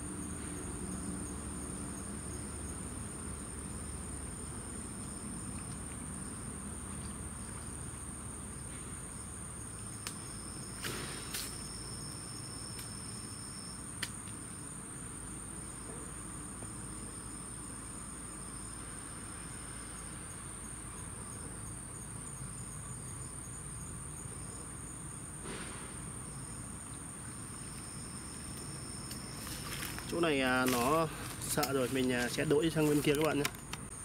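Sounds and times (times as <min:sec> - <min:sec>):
insects chirping high-pitched: 0:00.0 - 0:34.0.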